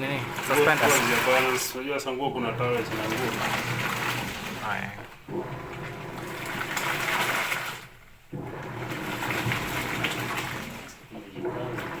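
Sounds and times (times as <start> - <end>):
washing machine sloshing water: 0.0 - 12.0.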